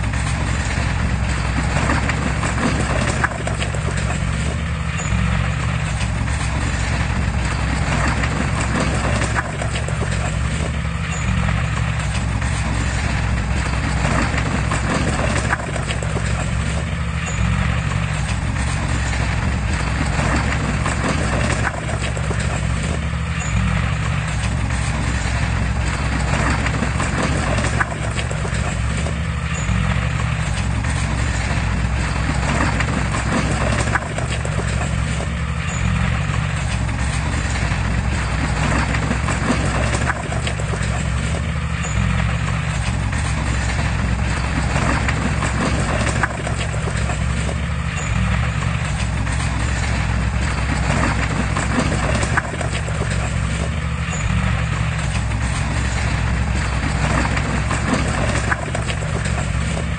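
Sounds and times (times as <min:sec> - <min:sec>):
diesel engine running: 0:00.0 - 0:59.9
faint clicks and clatter: 0:00.0 - 0:59.9.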